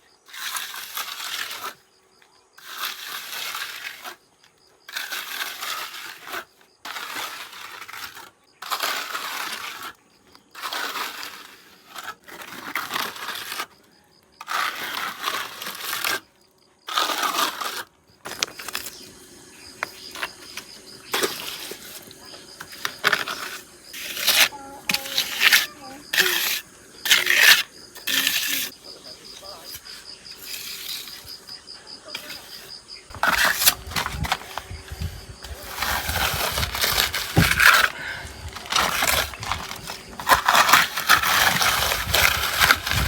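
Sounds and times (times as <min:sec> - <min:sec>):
trowel scraping and slapping mortar: 0:00.3 - 0:01.8, 0:02.6 - 0:04.2, 0:04.9 - 0:43.0.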